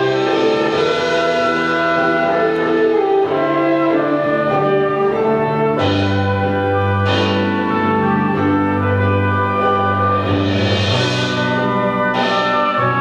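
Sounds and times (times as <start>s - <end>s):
orchestral held chords: 0.0s - 13.0s.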